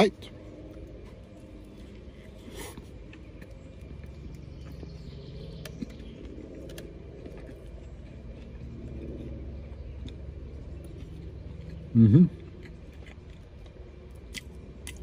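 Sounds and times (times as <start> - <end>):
low car hum: 0.0 - 15.0
person chewing food: 0.3 - 15.0.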